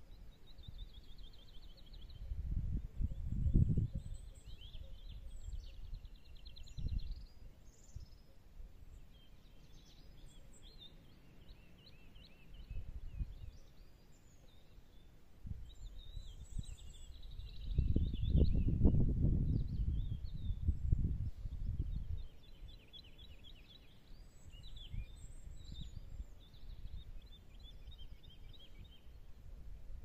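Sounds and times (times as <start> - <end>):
wind rumbling on microphone: 0.0 - 10.8, 12.2 - 30.0
small birds chirping: 0.0 - 30.0.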